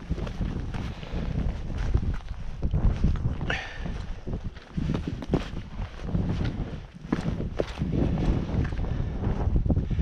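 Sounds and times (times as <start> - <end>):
boots on rocky snowy ground: 0.0 - 9.6
wind rumble on microphone: 0.0 - 10.0.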